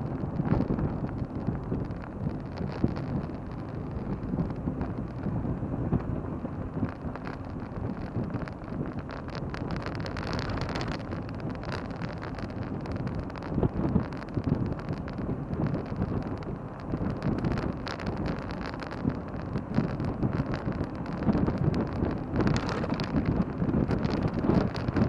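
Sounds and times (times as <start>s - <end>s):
road and tyre rumble: 0.0s - 25.0s
wind buffeting microphone: 0.0s - 25.0s.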